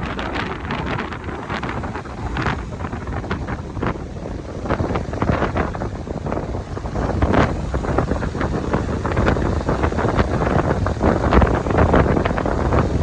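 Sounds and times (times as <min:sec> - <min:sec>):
strong gusting wind on microphone: 0:00.0 - 0:13.0.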